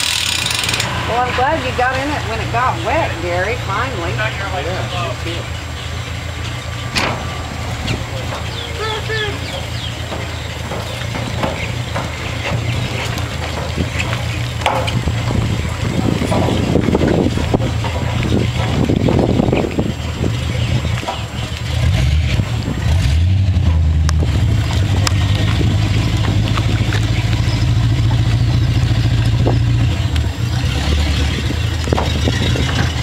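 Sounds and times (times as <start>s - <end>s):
speedboat engine running: 0.0s - 33.0s.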